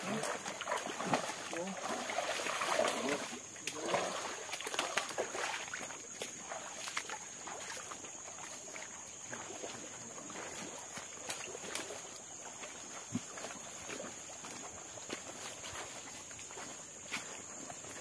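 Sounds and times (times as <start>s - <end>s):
footsteps on wet stones and leaves: 0.0s - 18.0s
high insect drone: 0.0s - 18.0s.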